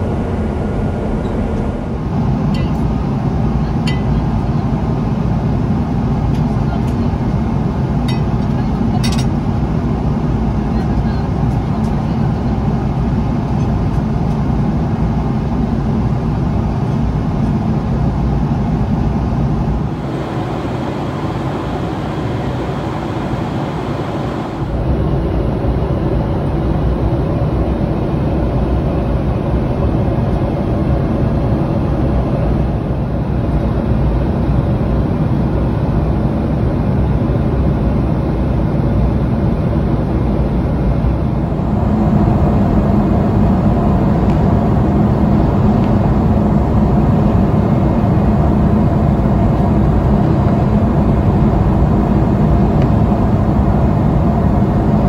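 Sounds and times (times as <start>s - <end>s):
airliner cabin engine noise: 0.0s - 55.0s.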